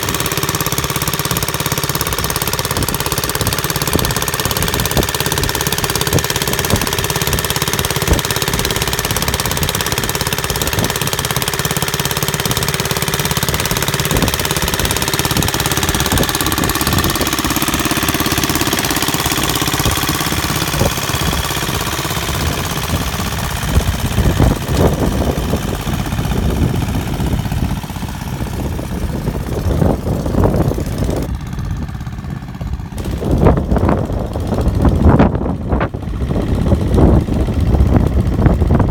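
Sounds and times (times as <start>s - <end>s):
tractor engine knocking: 0.0s - 38.9s.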